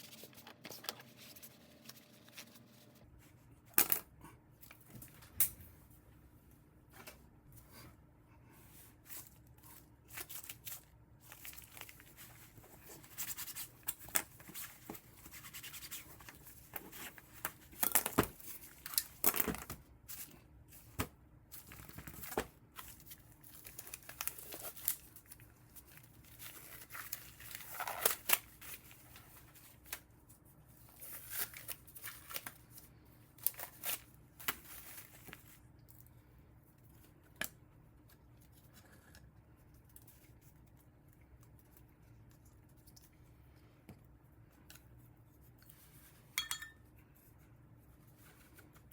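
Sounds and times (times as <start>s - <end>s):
faint steady hum: 0.0s - 48.9s.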